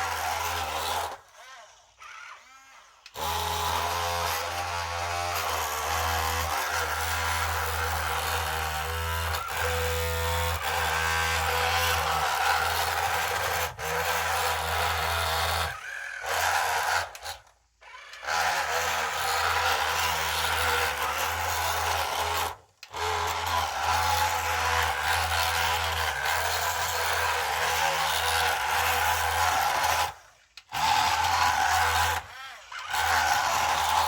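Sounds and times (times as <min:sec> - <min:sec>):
model machine electric motors whirring: 0:00.0 - 0:34.0.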